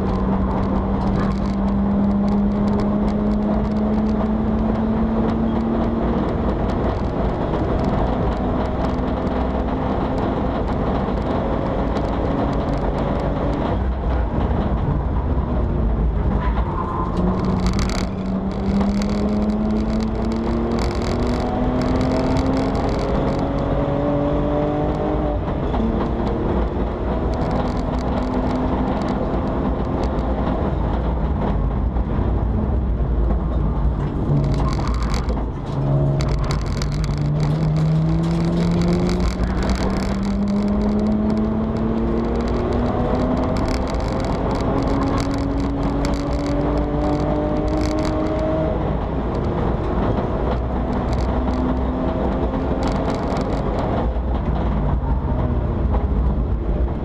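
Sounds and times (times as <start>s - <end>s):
car engine accelerating: 0.0s - 57.0s
road and wind rumble: 0.0s - 57.0s.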